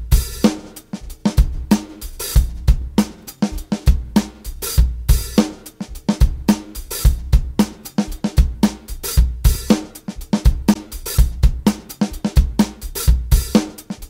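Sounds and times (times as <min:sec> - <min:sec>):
drum-heavy music fast beat: 0:00.0 - 0:14.0.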